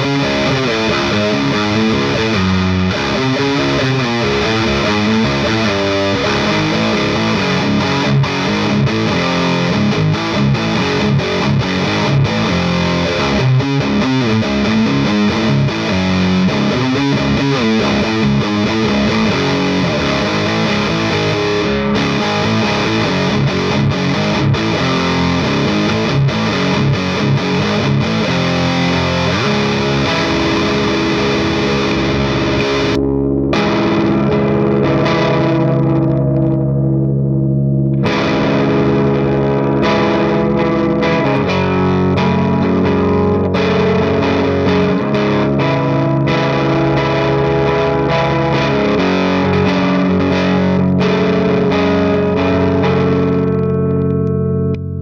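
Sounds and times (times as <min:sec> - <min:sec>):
distorted electric guitar riffs: 0:00.0 - 0:55.0.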